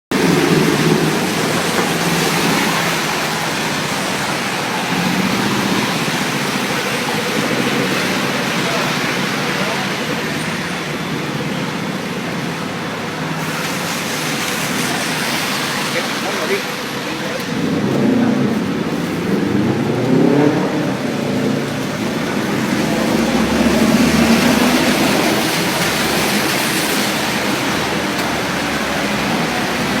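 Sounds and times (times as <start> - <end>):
steady rain falling: 0.1 - 30.0
passing vehicle engine hum: 0.2 - 30.0.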